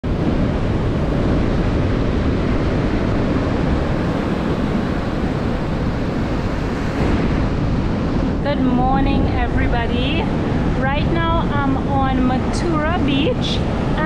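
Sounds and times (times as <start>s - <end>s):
surf breaking on beach: 0.0s - 14.0s
wind buffeting microphone: 0.0s - 14.0s.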